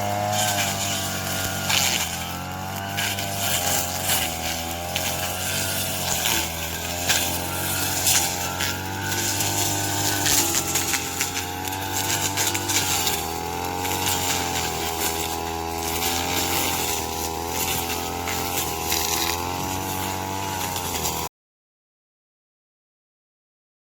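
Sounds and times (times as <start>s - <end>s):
small petrol engine running: 0.0s - 21.3s
stalks crackling as cut: 0.0s - 21.3s.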